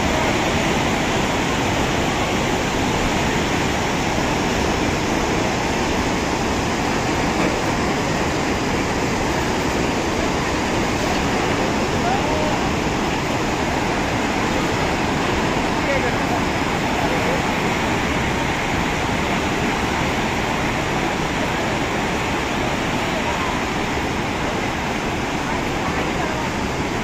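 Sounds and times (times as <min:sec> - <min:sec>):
floodwater roaring: 0:00.0 - 0:27.0.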